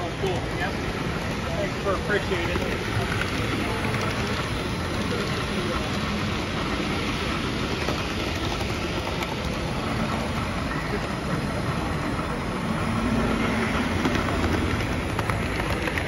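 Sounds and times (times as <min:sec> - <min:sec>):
low crowd chatter: 0:00.0 - 0:16.0
model train running: 0:00.0 - 0:16.0.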